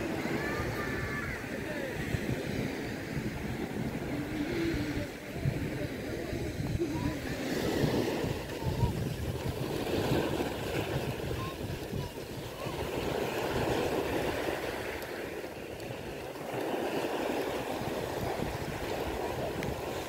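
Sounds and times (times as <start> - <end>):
surf washing on shore: 0.0 - 20.0
wind rumbling on microphone: 0.0 - 20.0.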